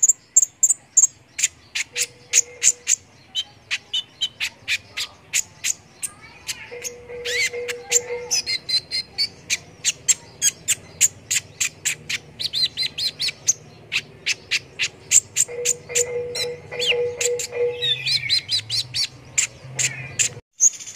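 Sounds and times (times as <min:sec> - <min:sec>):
bird chip notes and twitters: 0:00.0 - 0:20.9.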